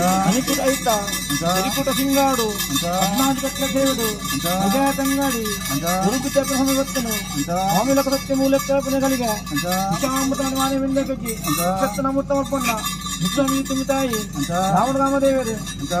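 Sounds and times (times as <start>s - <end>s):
person chanting: 0.0s - 16.0s
steady low hum: 0.0s - 16.0s.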